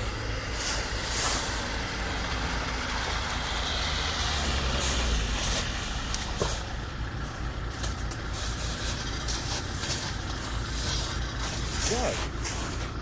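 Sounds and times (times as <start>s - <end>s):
vehicle engine under load: 0.0s - 13.0s.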